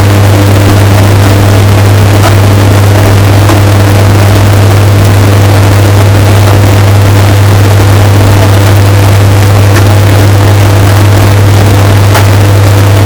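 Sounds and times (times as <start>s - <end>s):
washing machine humming distorted: 0.0s - 13.0s.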